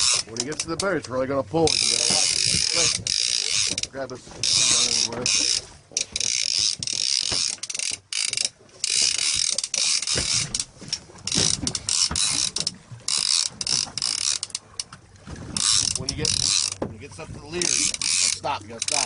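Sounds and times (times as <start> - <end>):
fishing reel whirring and ratcheting: 0.0 - 0.9, 1.6 - 16.8, 17.5 - 19.0.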